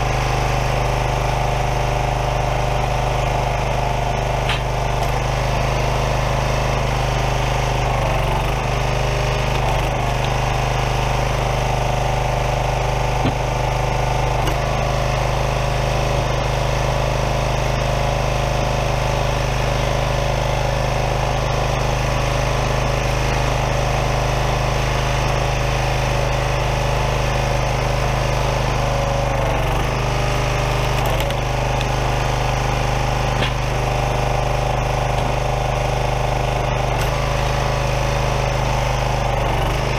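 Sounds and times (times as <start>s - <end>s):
small gas engine running: 0.0s - 39.9s.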